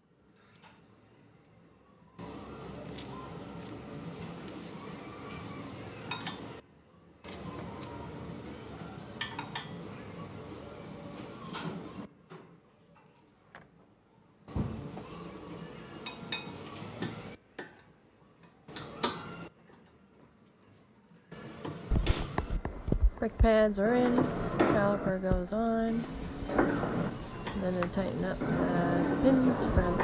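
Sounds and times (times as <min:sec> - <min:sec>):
steady background noise: 0:00.0 - 0:30.0.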